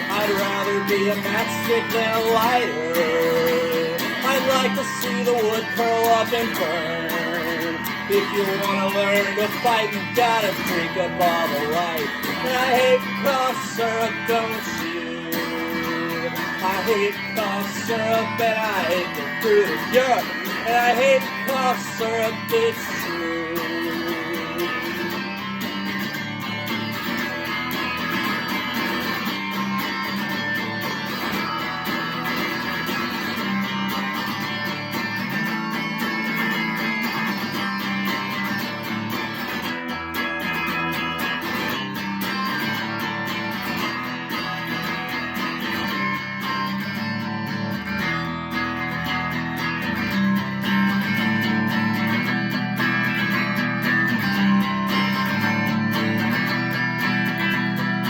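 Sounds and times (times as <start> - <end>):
strummed guitar: 0.0 - 58.0.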